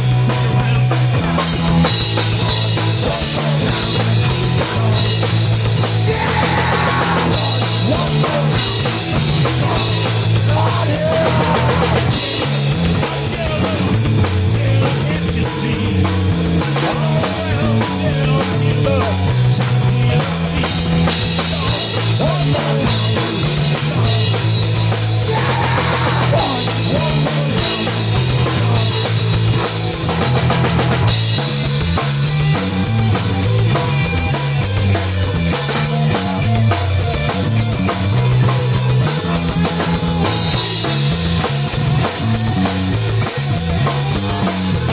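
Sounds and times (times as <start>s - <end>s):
bass guitar: 0.0s - 44.9s
drum kit beat: 0.0s - 44.9s.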